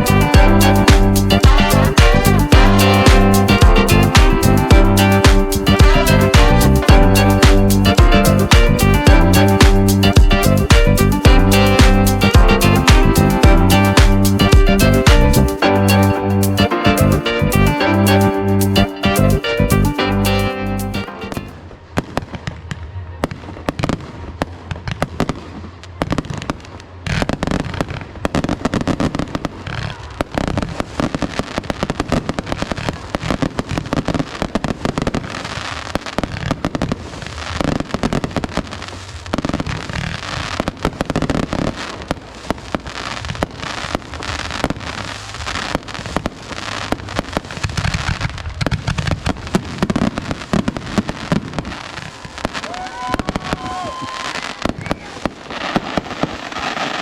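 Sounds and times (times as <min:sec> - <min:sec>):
fireworks bangs and crackles: 0:00.0 - 0:15.3, 0:21.5 - 0:57.0.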